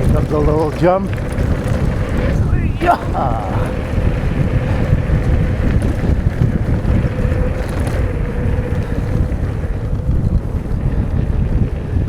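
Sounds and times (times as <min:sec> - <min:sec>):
electric bike motor whine: 0:00.0 - 0:12.0
wind rumbling on microphone: 0:00.0 - 0:12.0.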